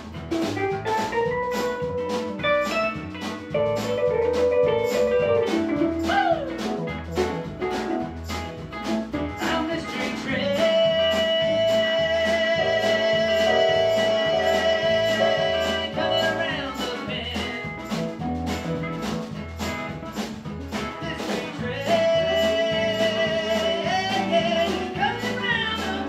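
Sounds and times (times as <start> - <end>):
blues-rock band playing: 0.0 - 26.0
keyboard lead: 0.0 - 26.0.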